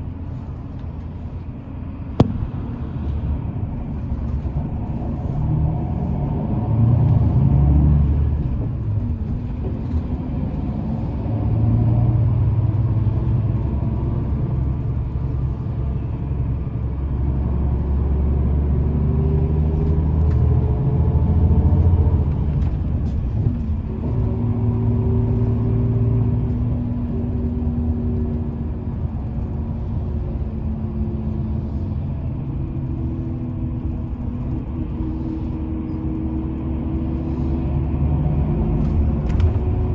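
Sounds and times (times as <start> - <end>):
engine hum: 0.0 - 39.9
vehicle engines rumbling: 0.0 - 39.9.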